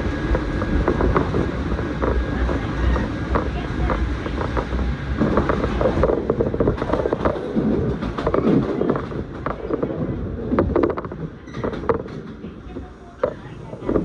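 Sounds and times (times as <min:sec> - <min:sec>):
train running gear rumble: 0:00.0 - 0:14.0
wheels clicking over track: 0:00.0 - 0:14.0.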